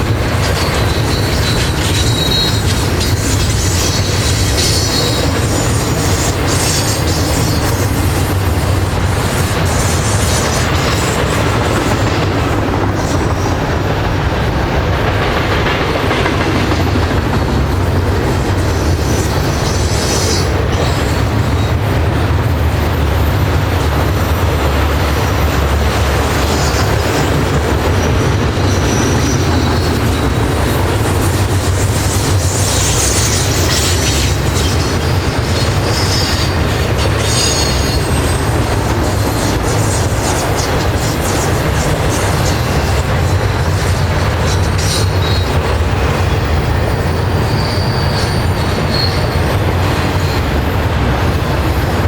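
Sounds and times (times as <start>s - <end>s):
high wheel squeals: 0.0s - 13.6s, 16.5s - 21.9s, 22.8s - 50.8s
train wheels rumbling on rail: 0.0s - 52.0s.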